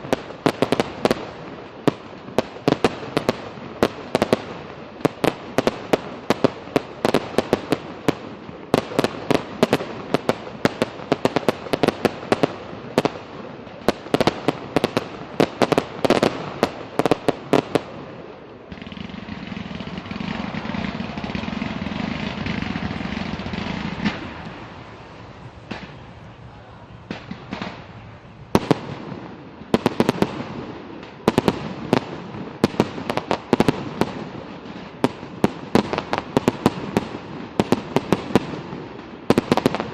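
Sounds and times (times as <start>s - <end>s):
fireworks crackling and banging: 0.0s - 39.9s
fireworks rushing: 0.0s - 39.9s.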